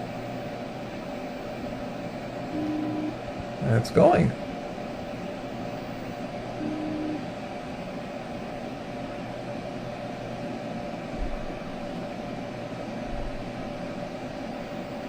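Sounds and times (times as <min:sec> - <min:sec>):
printer fans and motors whirring: 0:00.0 - 0:15.0.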